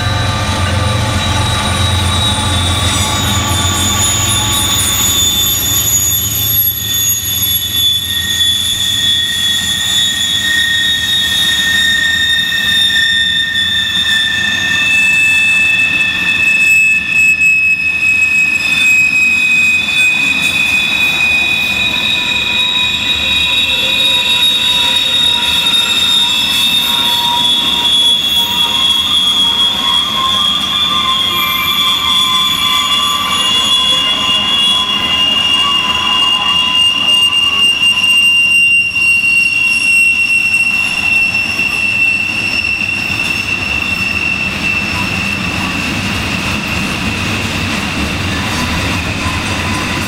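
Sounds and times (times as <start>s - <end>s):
train wheels squealing: 0.0s - 50.0s.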